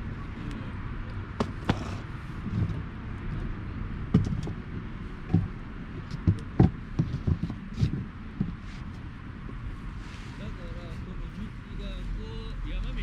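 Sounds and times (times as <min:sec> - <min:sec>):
low rumble of fire: 0:00.0 - 0:13.0.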